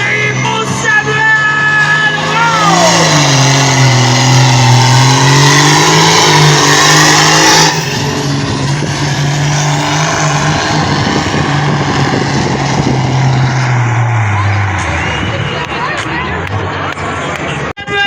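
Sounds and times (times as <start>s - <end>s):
pulling vehicle engine at high revs: 0.0s - 17.7s.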